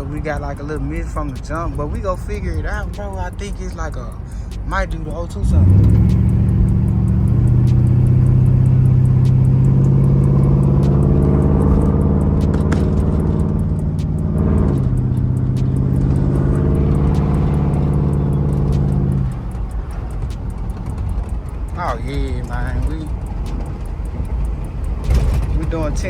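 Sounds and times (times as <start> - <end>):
car engine pulling: 0.0 - 26.0.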